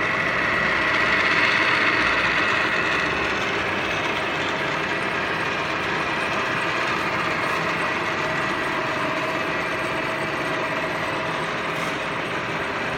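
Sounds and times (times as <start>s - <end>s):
metal lathe machining hiss: 0.0s - 12.9s.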